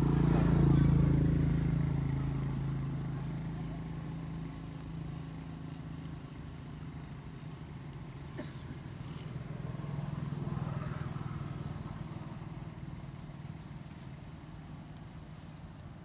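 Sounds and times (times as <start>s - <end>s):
vehicle engine passing: 0.0s - 15.5s.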